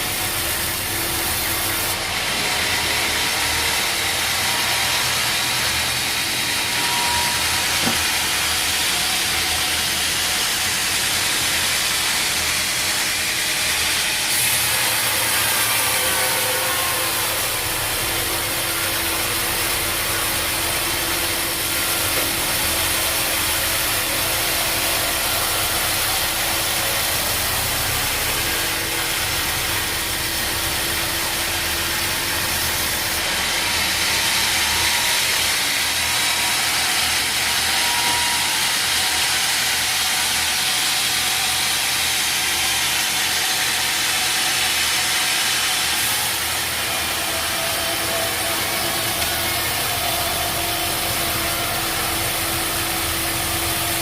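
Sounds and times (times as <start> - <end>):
saw cutting through log: 0.0 - 54.0
sawmill machinery running: 0.0 - 54.0.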